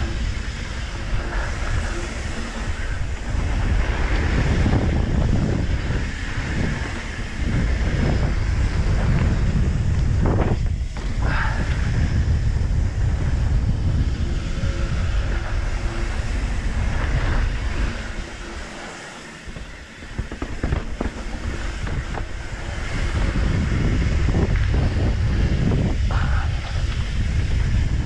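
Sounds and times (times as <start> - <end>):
bike rattling: 0.0 - 28.0
rumble of knobby tyres: 0.0 - 28.0
wind buffeting microphone: 0.0 - 28.0.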